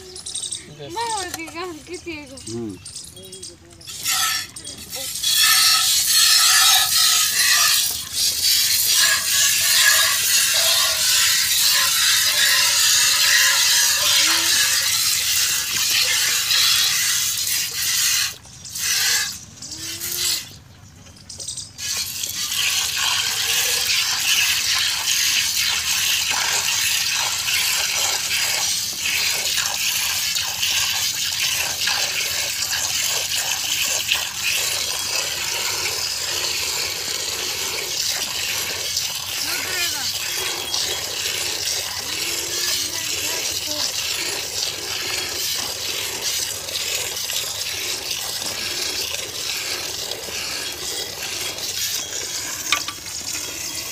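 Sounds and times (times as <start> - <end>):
milk squirting into metal pail: 3.9 - 19.4, 21.8 - 53.9.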